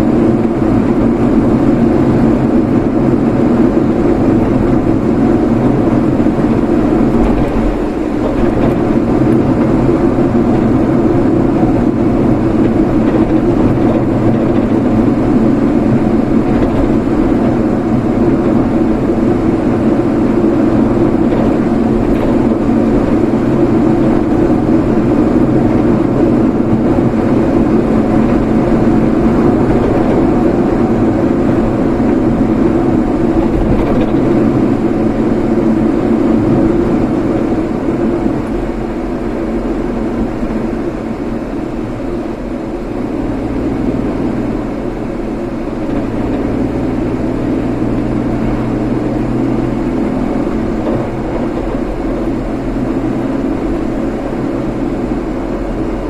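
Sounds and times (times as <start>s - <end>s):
vehicle engine and tyre noise: 0.0s - 56.0s.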